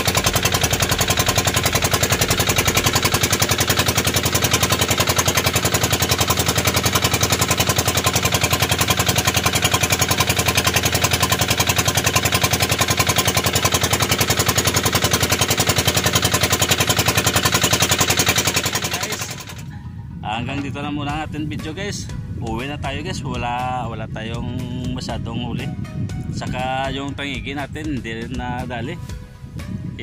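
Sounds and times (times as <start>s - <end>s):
boat engine popping: 0.0s - 29.0s.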